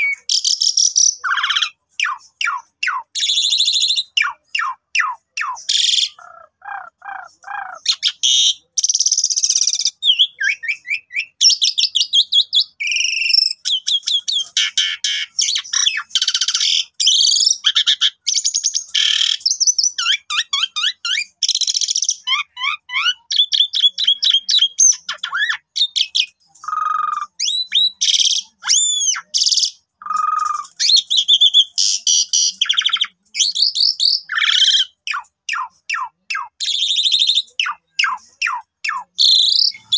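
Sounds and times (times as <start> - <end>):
starling singing chattering trills: 0.0 - 39.9.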